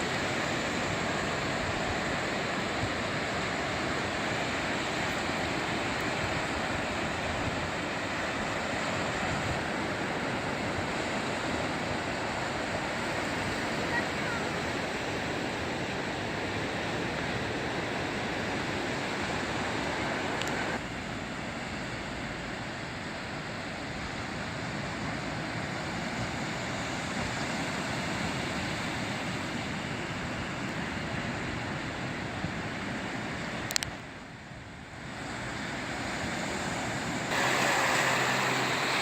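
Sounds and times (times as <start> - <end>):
ocean surf on sandy beach: 0.0 - 39.0.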